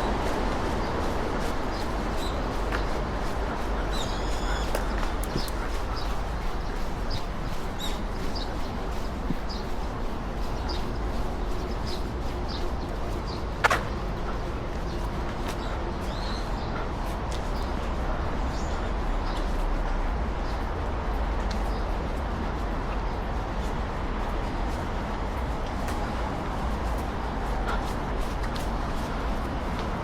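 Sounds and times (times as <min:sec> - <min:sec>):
steady outdoor rush: 0:00.0 - 0:30.0.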